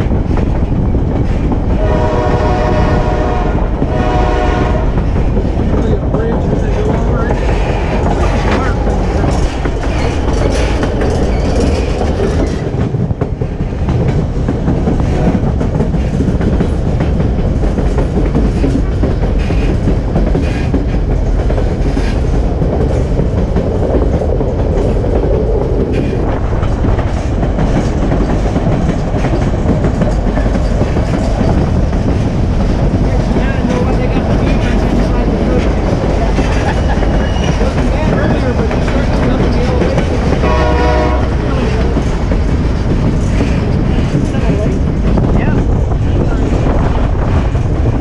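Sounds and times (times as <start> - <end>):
clickety-clack of rail joints: 0.0 - 48.0
train wheels rumbling: 0.0 - 48.0.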